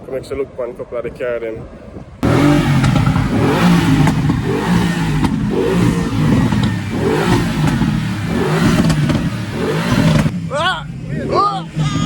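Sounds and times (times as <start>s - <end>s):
car engine revving: 2.2s - 12.0s.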